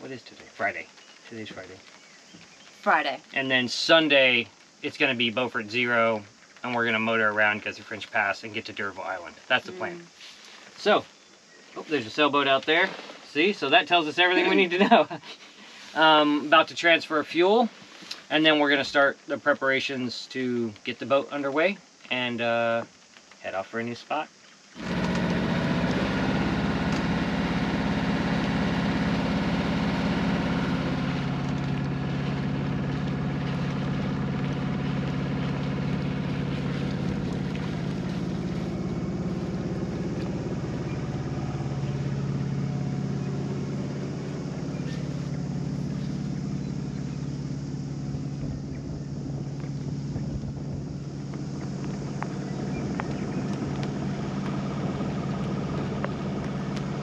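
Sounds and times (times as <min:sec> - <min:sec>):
boat engine drone: 0:00.0 - 0:10.2, 0:11.8 - 0:17.4, 0:24.8 - 0:57.0
water and hull noise: 0:00.0 - 0:14.8, 0:24.4 - 0:57.0.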